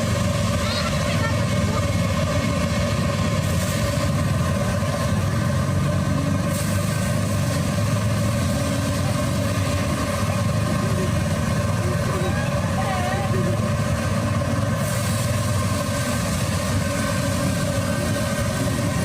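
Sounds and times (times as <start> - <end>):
low mechanical engine rumble: 0.0 - 19.0.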